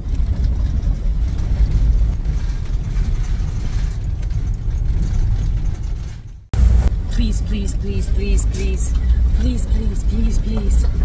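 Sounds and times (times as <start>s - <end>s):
vehicle rumbling on gravel: 0.0s - 11.0s.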